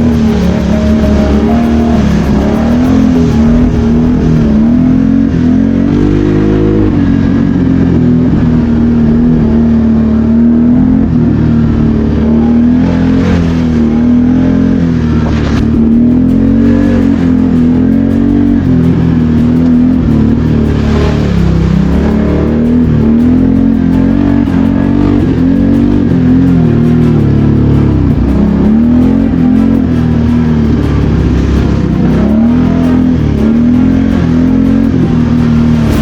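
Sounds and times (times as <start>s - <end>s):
atv engine running and revving: 0.0s - 36.0s.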